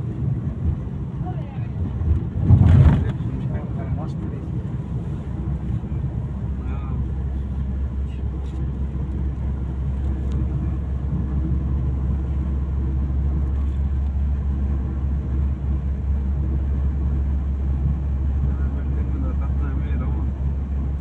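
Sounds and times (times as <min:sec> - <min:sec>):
motor vehicle engine rumbling: 0:00.0 - 0:21.0.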